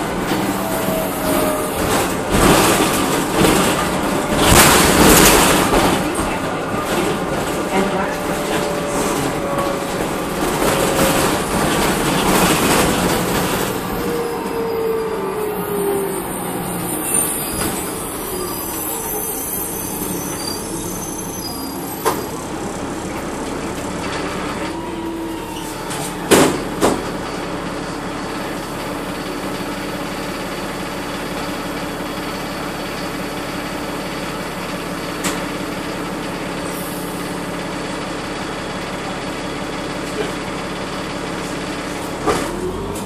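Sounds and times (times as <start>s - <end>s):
bus body rattling: 0.0s - 15.6s, 19.9s - 43.0s
bus diesel drivetrain running: 0.0s - 43.0s.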